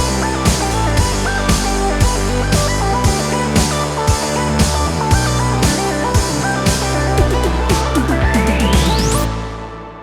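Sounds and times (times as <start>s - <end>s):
electronic music with guitar: 0.0s - 10.0s
rising synth sweep: 0.0s - 10.0s.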